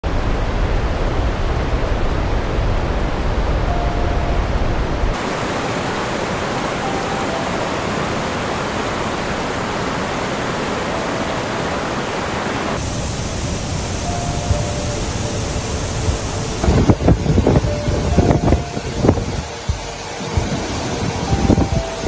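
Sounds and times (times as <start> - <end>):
rushing floodwater: 0.1 - 22.0.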